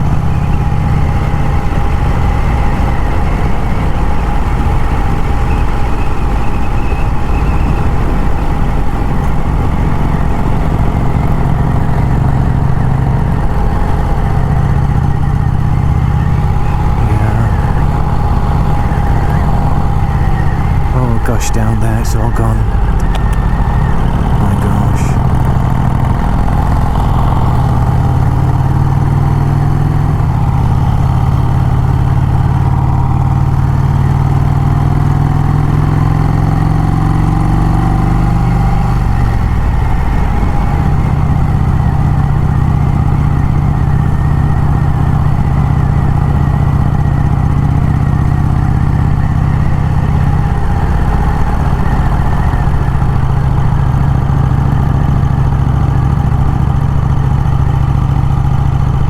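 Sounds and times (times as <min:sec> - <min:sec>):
motorcycle engine running: 0:00.0 - 0:21.1, 0:22.6 - 0:59.0.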